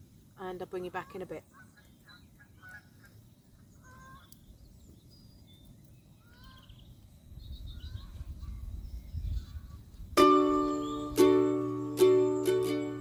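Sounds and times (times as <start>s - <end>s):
birds chirping: 0.0s - 13.0s
faint outdoor ambience: 0.0s - 13.0s.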